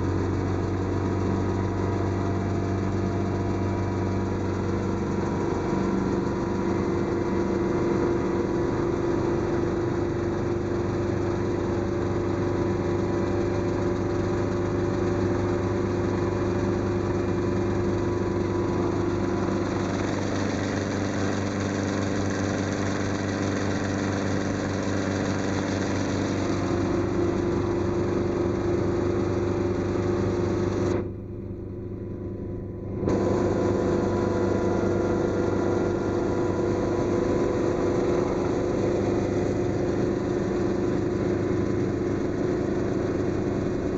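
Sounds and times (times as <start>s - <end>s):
helicopter engine and rotors: 0.0s - 43.9s.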